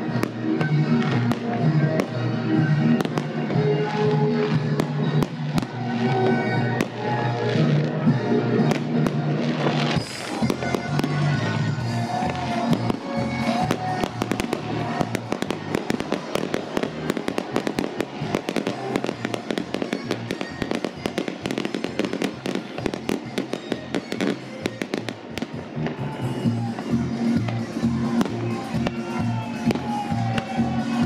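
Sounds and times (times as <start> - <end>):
background music: 0.0 - 31.0
fireworks crackling and popping: 0.0 - 31.0.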